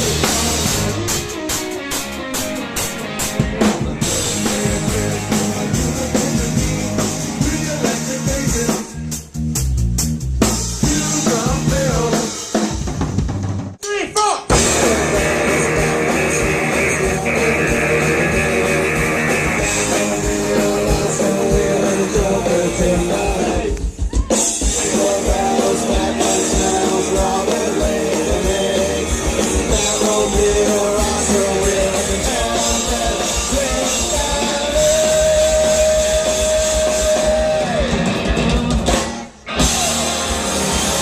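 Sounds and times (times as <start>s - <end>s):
rock band playing: 0.0s - 13.8s, 14.5s - 41.0s.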